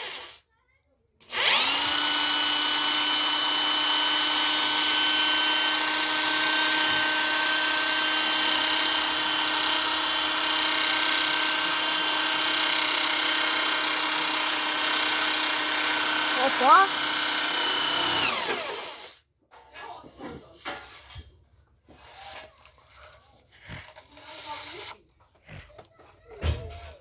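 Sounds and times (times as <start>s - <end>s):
power tool motor whining: 0.0s - 0.4s, 1.2s - 19.2s, 21.9s - 27.0s.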